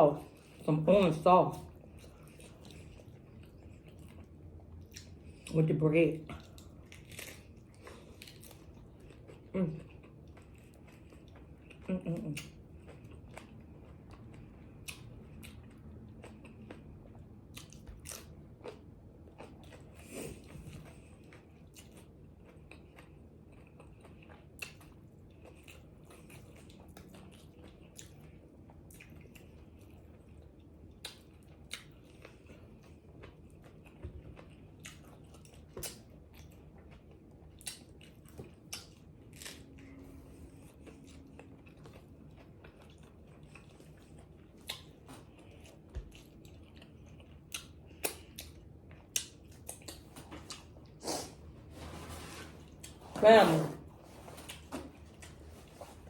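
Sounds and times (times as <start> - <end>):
person chewing food: 1.6 - 5.6, 6.2 - 51.8, 52.6 - 53.2, 53.8 - 56.0.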